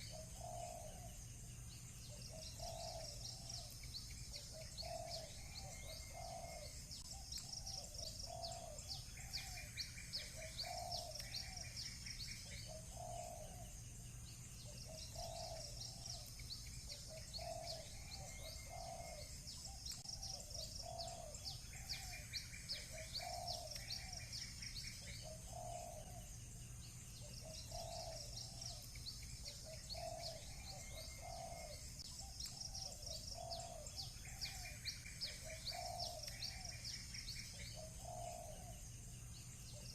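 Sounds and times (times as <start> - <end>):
doves cooing: 0.0 - 1.2, 2.0 - 13.8, 14.6 - 26.4, 27.2 - 38.9
small birds chirping: 0.0 - 39.9.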